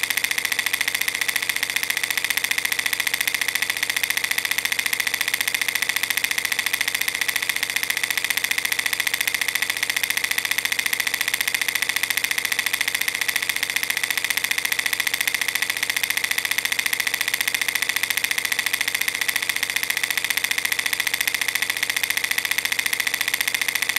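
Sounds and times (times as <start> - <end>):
film projector clattering: 0.0 - 23.9.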